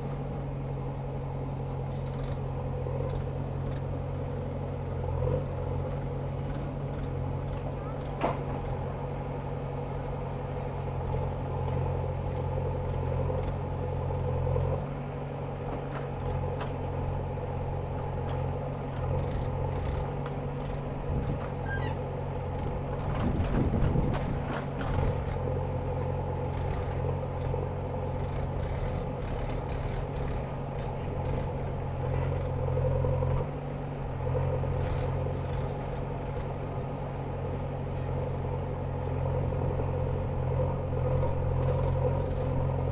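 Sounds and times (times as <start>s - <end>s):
diesel engine of backhoe loader: 0.0s - 42.9s.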